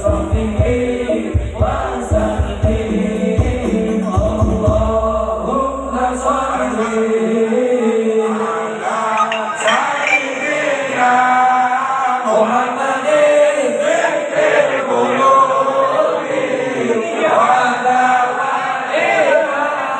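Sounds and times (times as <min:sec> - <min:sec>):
voices chanting devotional songs: 0:00.0 - 0:19.9.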